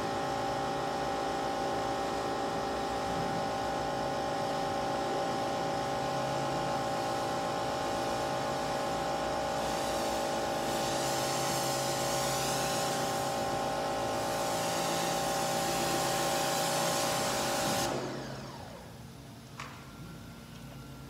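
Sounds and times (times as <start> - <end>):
pressure washer running: 0.0 - 19.8.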